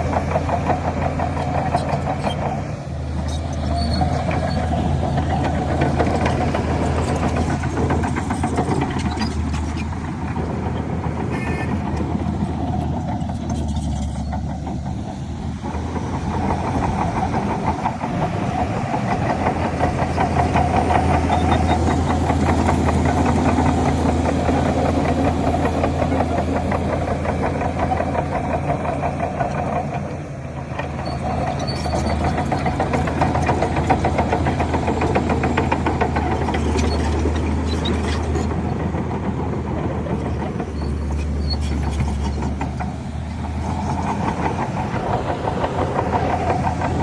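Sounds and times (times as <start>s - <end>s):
diesel engine of earthmoving machine: 0.0s - 47.0s.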